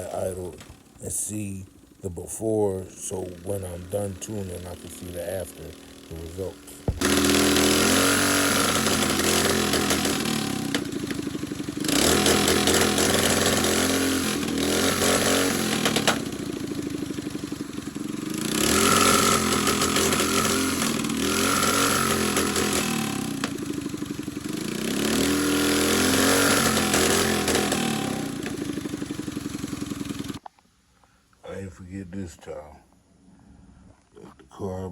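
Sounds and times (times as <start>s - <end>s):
small motorbike engine revving: 0.0s - 30.4s.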